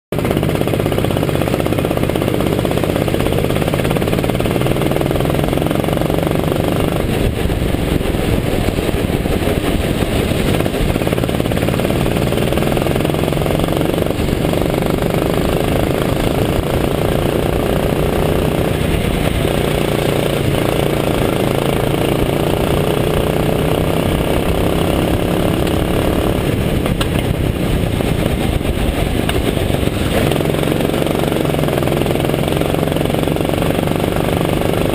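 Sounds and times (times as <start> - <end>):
go-kart engine running hard: 0.2 - 34.9.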